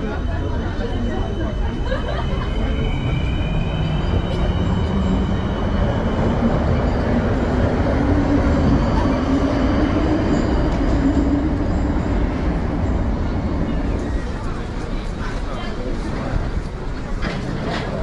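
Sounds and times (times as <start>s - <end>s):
train rumbling in station: 0.0s - 18.0s.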